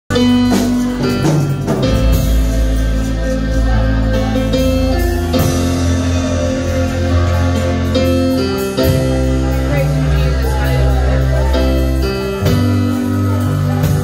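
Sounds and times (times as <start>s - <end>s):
drums: 0.1s - 14.0s
electric guitar: 0.1s - 14.0s
keyboard chords: 0.1s - 14.0s.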